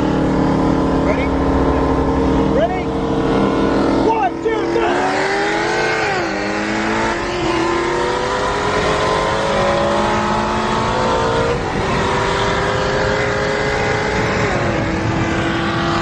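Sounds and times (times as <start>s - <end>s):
car engine at full throttle: 0.0s - 16.0s.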